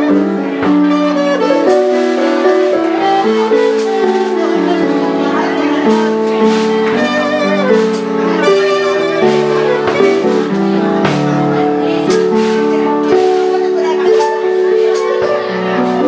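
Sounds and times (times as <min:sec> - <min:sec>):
held music chords: 0:00.0 - 0:16.0.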